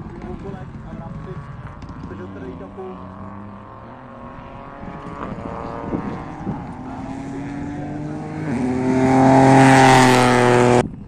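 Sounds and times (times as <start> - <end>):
rally car engine at high revs: 0.3 - 10.9.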